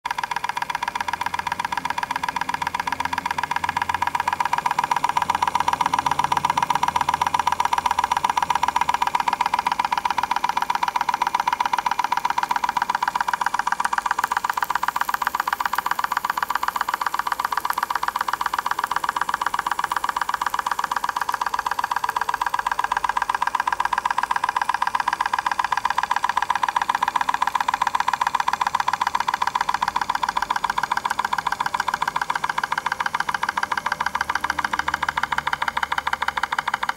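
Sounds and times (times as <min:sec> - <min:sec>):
small engine mechanical ticking: 0:00.0 - 0:36.9.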